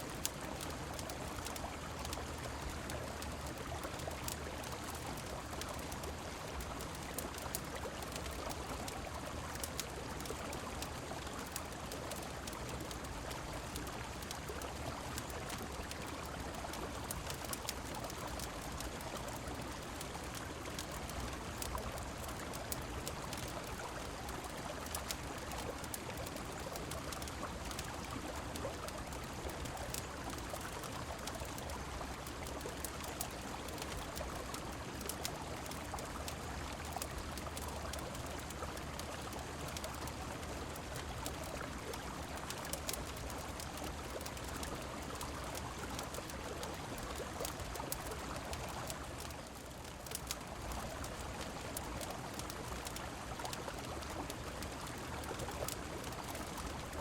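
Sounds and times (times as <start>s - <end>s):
faint sharp ticks: 0.0s - 57.0s
rain: 0.0s - 57.0s.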